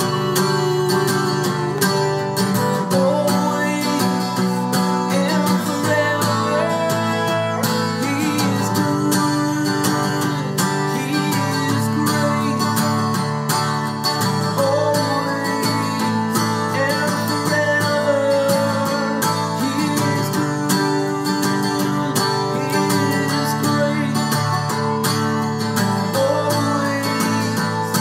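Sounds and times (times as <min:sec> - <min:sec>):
acoustic guitar strumming: 0:00.0 - 0:28.0
man singing: 0:00.0 - 0:28.0.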